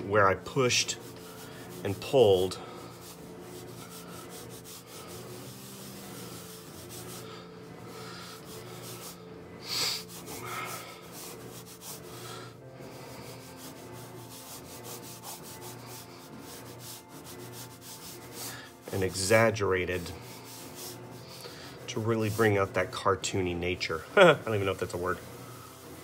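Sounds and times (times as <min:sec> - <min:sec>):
pencil scratching on paper: 0:00.0 - 0:23.0.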